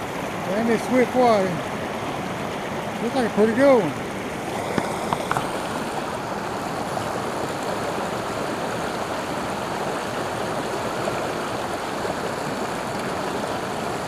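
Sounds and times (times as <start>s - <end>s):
river water rushing over rocks: 0.0s - 14.0s.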